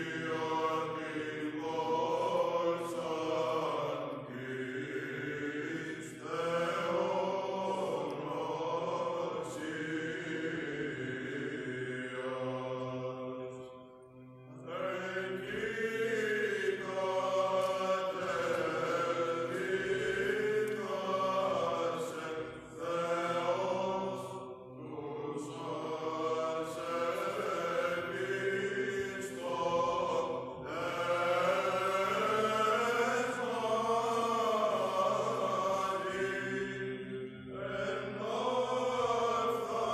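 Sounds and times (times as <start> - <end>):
men chanting in unison: 0.0 - 13.4, 14.7 - 39.9
low held vocal drone: 0.0 - 13.6, 14.3 - 39.9.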